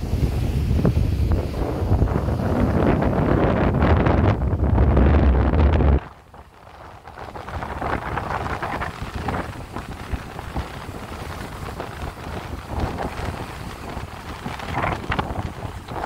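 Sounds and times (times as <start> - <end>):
sea waves splashing: 0.0 - 16.0
wind rumbling on microphone: 0.0 - 16.0.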